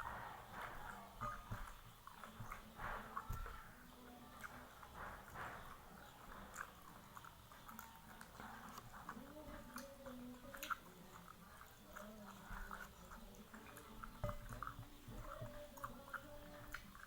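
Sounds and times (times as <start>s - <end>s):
close-up chewing and biting: 0.0s - 17.0s.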